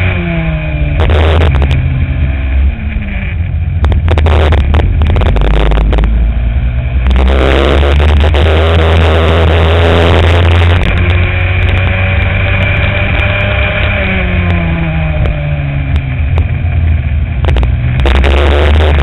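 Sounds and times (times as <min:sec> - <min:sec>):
racing kart engine rumble: 0:00.0 - 0:19.0.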